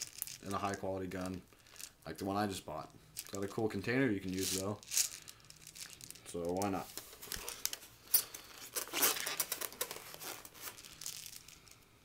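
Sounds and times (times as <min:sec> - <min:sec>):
plastic packaging crinkling: 0:00.0 - 0:02.0, 0:03.2 - 0:11.8.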